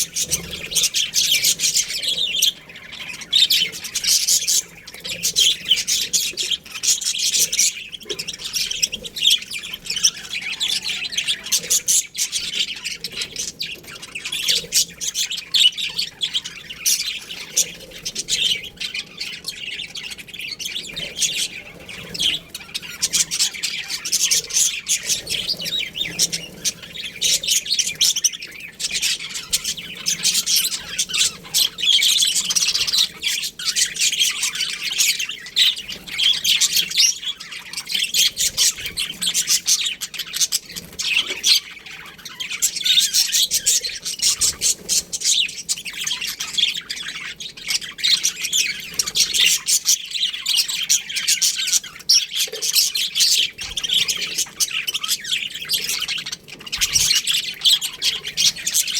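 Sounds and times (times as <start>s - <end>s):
budgerigars chirping: 0.0s - 58.9s.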